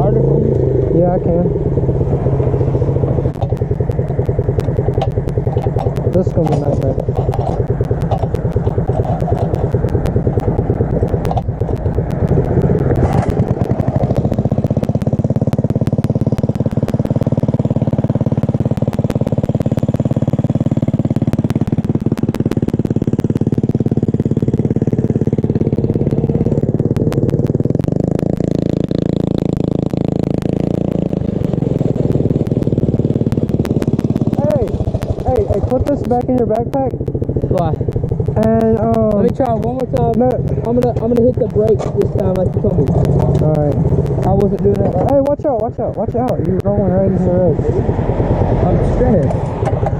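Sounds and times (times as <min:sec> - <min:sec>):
small bike engine running: 0:00.0 - 0:49.9
fast rattling clatter: 0:01.0 - 0:49.9.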